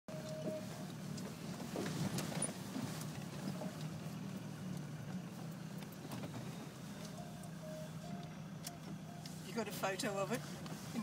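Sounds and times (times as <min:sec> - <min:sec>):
car engine running: 0:00.1 - 0:11.0.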